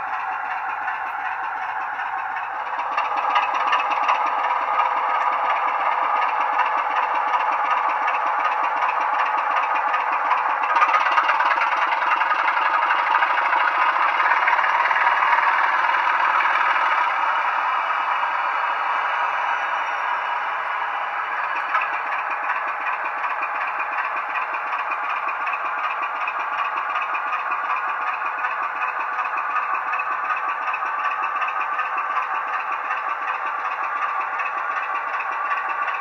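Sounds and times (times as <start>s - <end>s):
model locomotive diesel engine sound: 0.0s - 36.0s.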